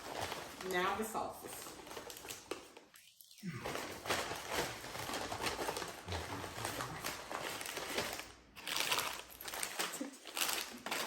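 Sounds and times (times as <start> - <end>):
paper bags rustling: 0.0 - 2.8, 3.6 - 11.0.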